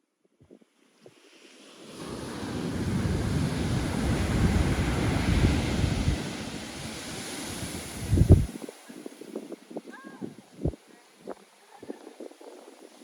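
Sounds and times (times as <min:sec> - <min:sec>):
ocean surf washing in: 0:01.1 - 0:13.0
wind buffeting microphone: 0:02.1 - 0:13.0.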